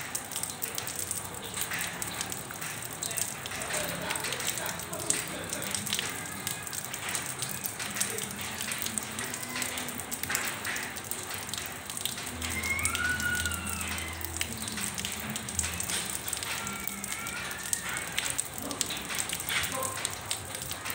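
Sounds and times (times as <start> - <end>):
drops splashing into puddle: 0.0 - 20.9
rain on hard ground: 0.0 - 20.9.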